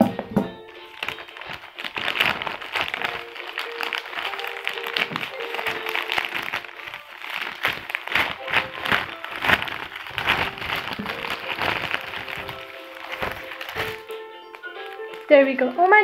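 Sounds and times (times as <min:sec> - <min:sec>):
background music with held tones: 0:00.0 - 0:16.0
plastic bag crinkling: 0:00.0 - 0:16.0.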